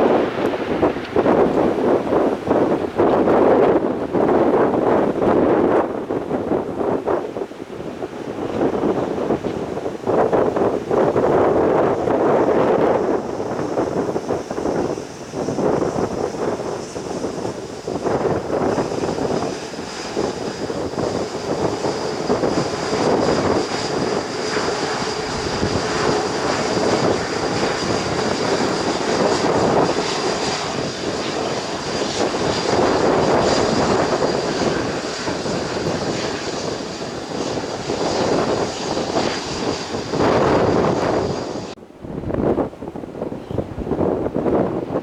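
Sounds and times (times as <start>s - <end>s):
jet airliner engines whining: 0.0s - 45.0s.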